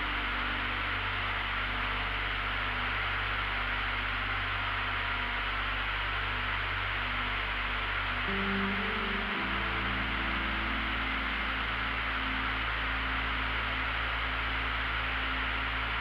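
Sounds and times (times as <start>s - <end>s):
constant low drone: 0.0s - 16.0s.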